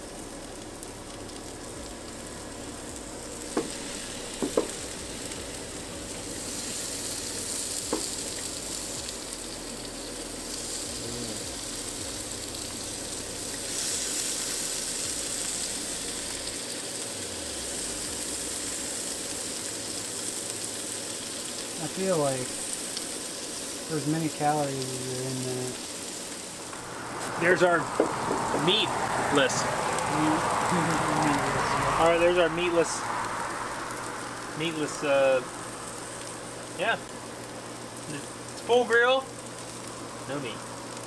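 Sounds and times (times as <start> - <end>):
patties sizzling on a griddle: 0.0 - 41.0.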